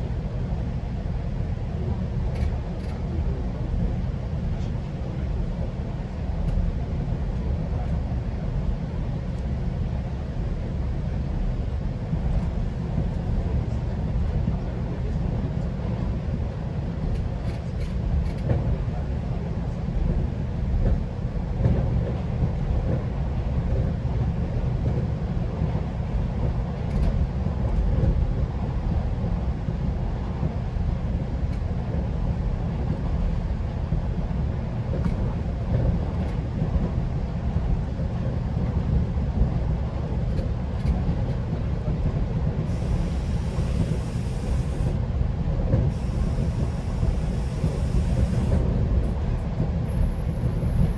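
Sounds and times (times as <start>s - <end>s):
train rumbling inside coach: 0.0s - 50.9s.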